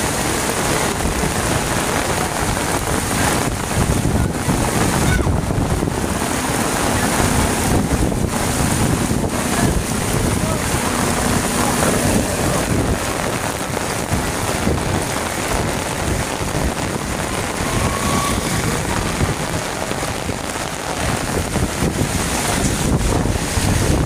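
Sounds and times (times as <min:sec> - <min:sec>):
heavy rain pouring: 0:00.0 - 0:24.0
wind buffeting microphone: 0:00.0 - 0:24.0.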